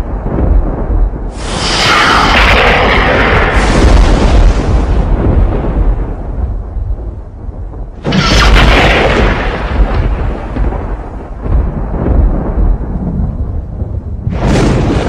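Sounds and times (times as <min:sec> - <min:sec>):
thunder crack and rumble: 0:00.0 - 0:15.0.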